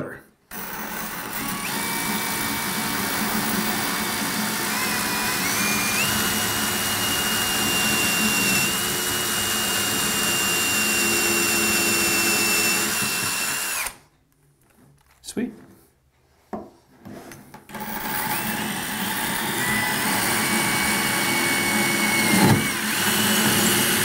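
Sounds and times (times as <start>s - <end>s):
drill grinding into ceramic tile: 0.5s - 14.0s, 17.7s - 24.0s.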